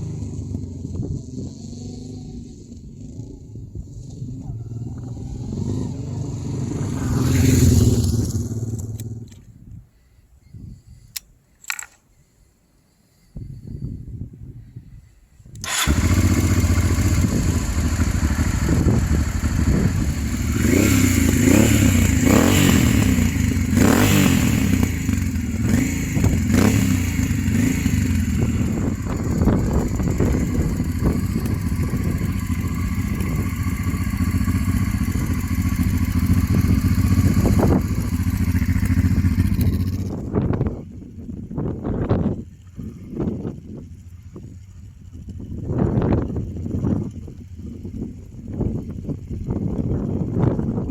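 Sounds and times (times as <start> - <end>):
motorcycle engine running: 0.0 - 9.5, 15.6 - 50.9.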